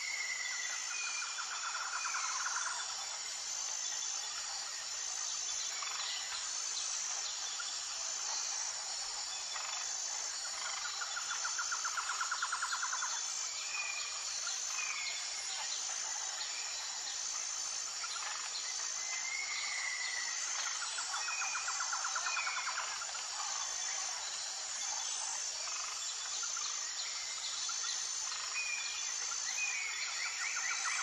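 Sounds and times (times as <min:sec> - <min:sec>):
insect chorus with high trill: 0:00.0 - 0:31.0.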